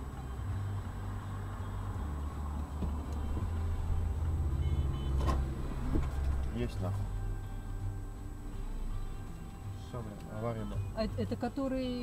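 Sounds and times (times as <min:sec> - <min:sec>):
faint traffic noise: 0:00.0 - 0:12.0.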